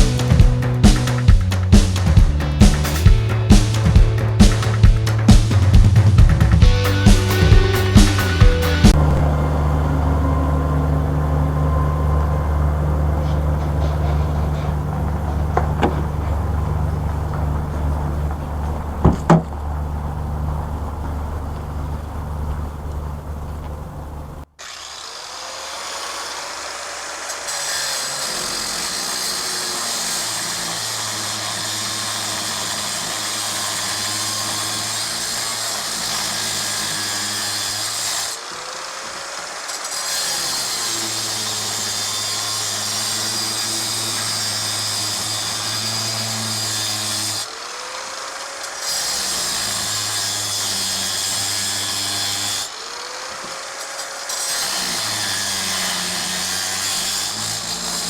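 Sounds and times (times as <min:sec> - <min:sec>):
power saw cutting metal: 0:00.0 - 0:21.3, 0:24.5 - 0:58.0.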